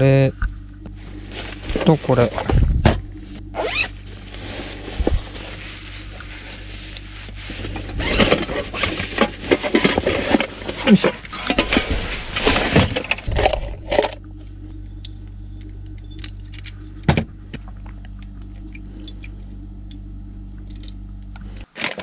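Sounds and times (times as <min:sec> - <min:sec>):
low hum: 0:00.0 - 0:21.7.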